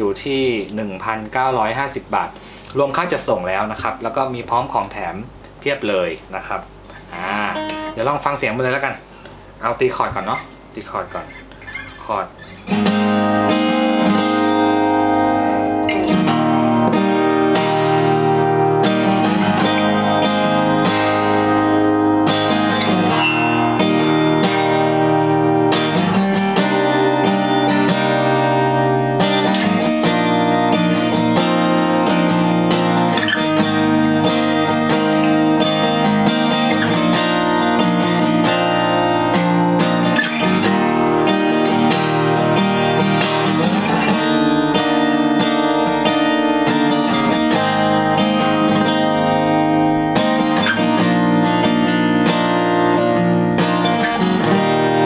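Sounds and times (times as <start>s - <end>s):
acoustic guitar strumming chords: 6.7s - 55.0s.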